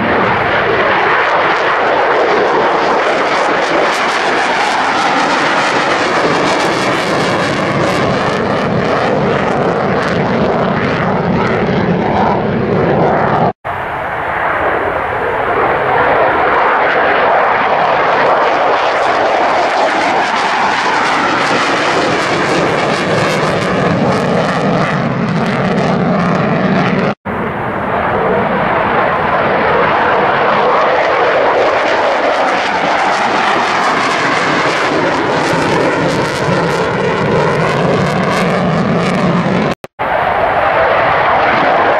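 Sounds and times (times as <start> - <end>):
jet engine noise: 0.0 - 41.9.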